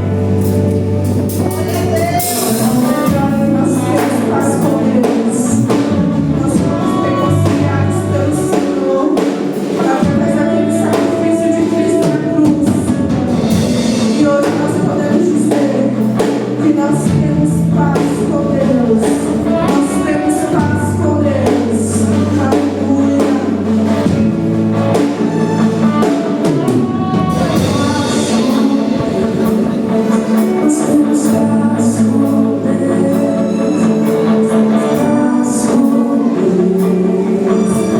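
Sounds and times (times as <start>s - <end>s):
drums: 0.0s - 37.9s
sustained bass notes: 0.0s - 37.9s
worship band playing: 0.0s - 37.9s
people singing: 1.3s - 37.9s.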